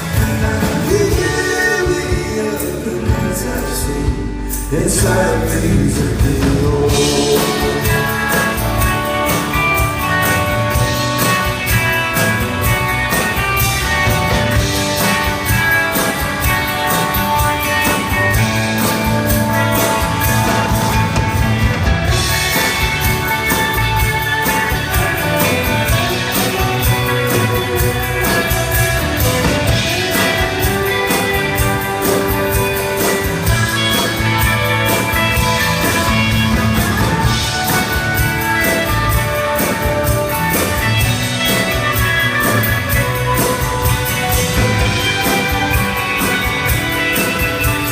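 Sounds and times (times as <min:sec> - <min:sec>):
drum kit beat: 0:00.0 - 0:47.9
rock band playing: 0:00.0 - 0:47.9.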